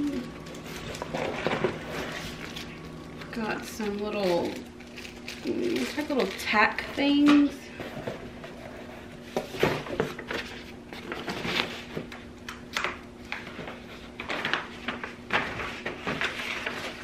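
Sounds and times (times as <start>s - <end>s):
paper and cardboard rustling: 0.0s - 12.2s, 13.3s - 17.0s.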